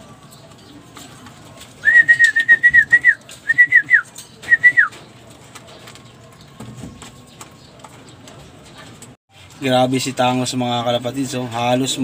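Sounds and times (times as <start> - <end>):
pigeons pecking grain: 0.0 - 10.9.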